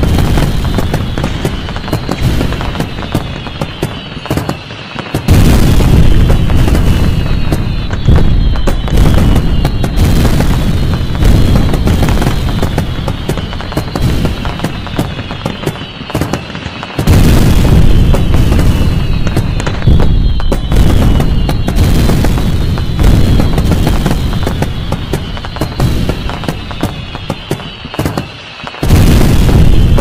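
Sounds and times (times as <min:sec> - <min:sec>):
fireworks booming and crackling: 0:00.0 - 0:30.0
fireworks whistling: 0:00.0 - 0:30.0.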